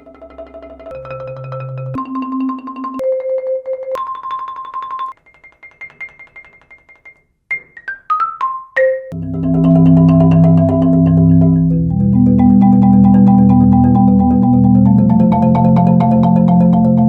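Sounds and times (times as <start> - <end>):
marimba rolled notes: 0.0 - 7.0, 7.6 - 17.0.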